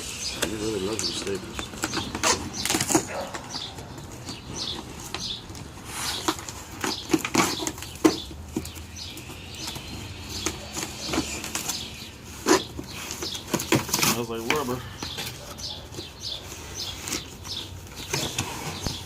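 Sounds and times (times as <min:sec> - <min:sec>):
cardboard rustling and scraping: 0:00.4 - 0:19.0.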